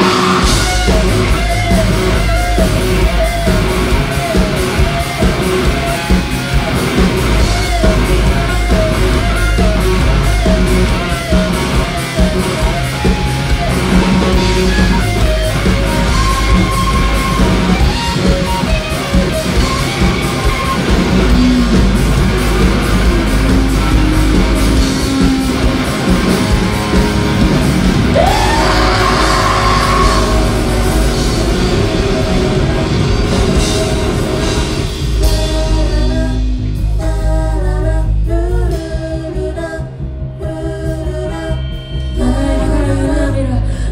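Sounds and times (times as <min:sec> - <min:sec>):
live rock band playing: 0:00.0 - 0:43.8
loud electric guitar: 0:00.0 - 0:43.9.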